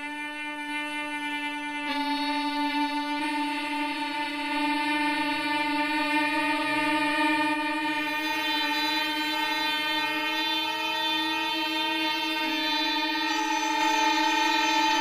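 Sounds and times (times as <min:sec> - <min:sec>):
dissonant horn-like drone: 0:00.0 - 0:15.0.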